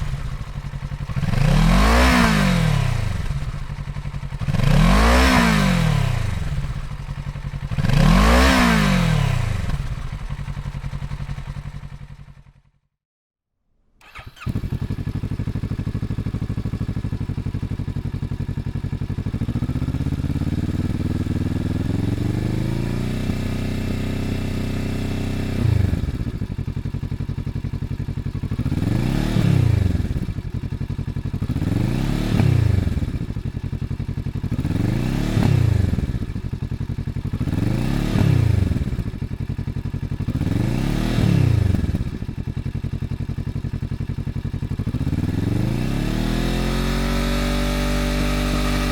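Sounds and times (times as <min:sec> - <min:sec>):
motorcycle engine revving: 0:00.0 - 0:12.7, 0:14.0 - 0:48.9
motorcycle engine idling: 0:00.0 - 0:12.8, 0:14.0 - 0:22.7, 0:24.9 - 0:40.9, 0:41.5 - 0:45.7.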